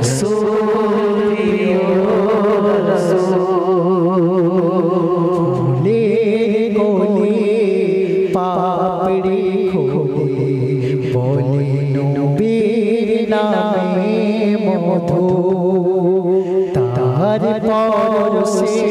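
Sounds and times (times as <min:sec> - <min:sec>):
man singing devotional song: 0:00.0 - 0:18.9.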